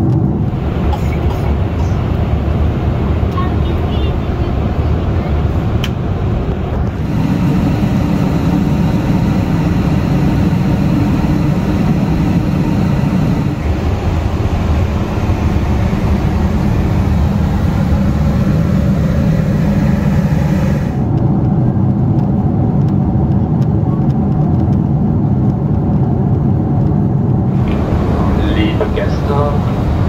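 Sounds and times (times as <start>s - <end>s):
airplane cabin roar in flight: 0.0s - 30.0s.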